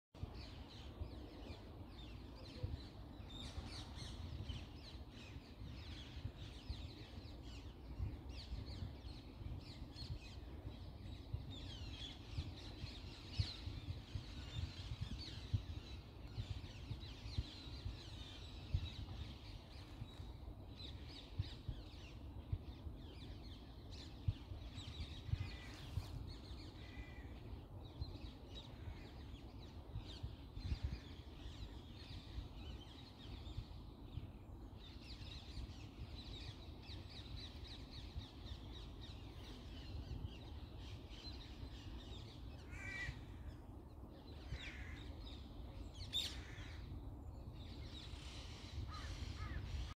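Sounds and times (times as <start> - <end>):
small birds calling: 0.2 - 50.0
steady low rumble: 0.2 - 50.0.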